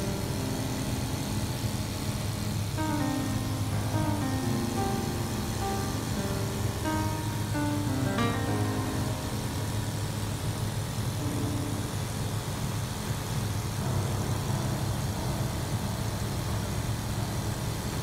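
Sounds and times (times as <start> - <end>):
light aircraft engine droning: 0.0 - 18.0
wind and airframe noise: 0.0 - 18.0.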